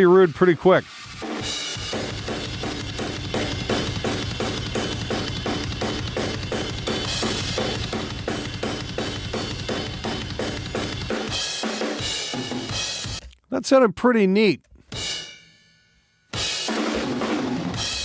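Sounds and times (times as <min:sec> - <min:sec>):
compressed drum kit beat: 0:00.0 - 0:13.3, 0:14.8 - 0:15.7, 0:16.3 - 0:18.0.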